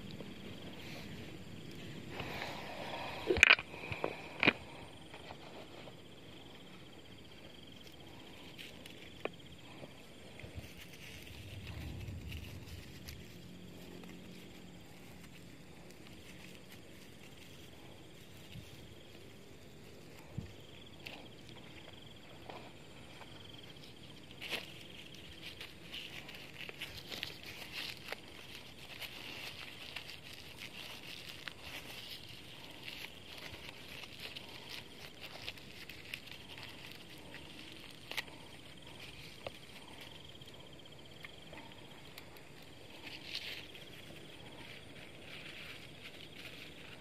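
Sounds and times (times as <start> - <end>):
insect trilling buzz: 0.0 - 47.0.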